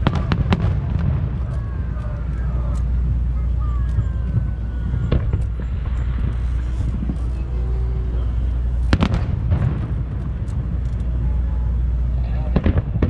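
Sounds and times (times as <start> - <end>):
fireworks bangs: 0.0 - 13.0
low rumble: 0.0 - 13.0.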